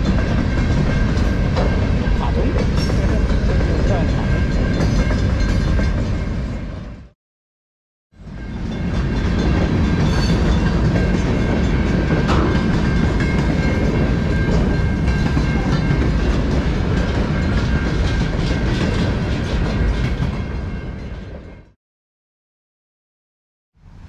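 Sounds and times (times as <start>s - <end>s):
train rumbling past: 0.0s - 7.2s, 8.2s - 21.8s.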